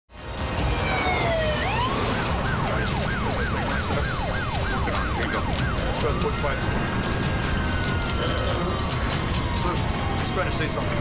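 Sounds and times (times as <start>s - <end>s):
ambulance siren: 0.3s - 11.0s.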